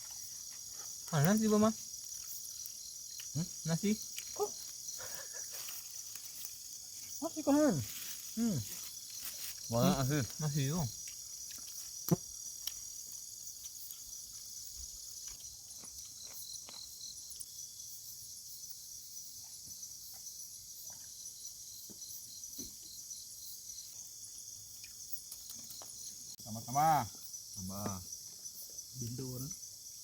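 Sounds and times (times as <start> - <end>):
insect chorus buzzing: 0.0 - 30.0.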